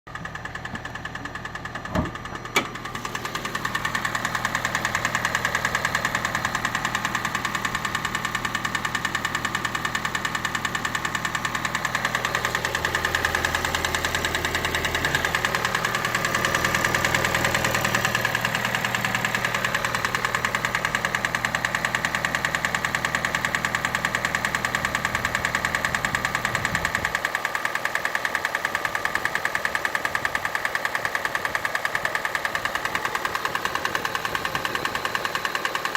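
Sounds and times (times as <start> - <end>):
car engine knocking: 0.1 - 35.9.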